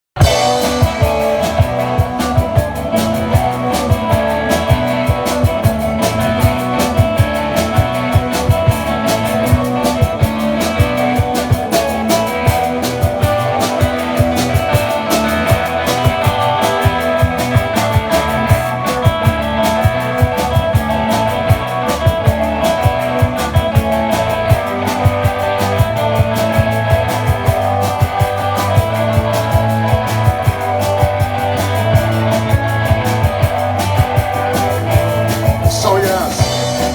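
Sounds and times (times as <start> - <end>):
bass note: 0.2 - 36.9
drum kit beat: 0.2 - 36.9
electric guitar: 0.2 - 36.9.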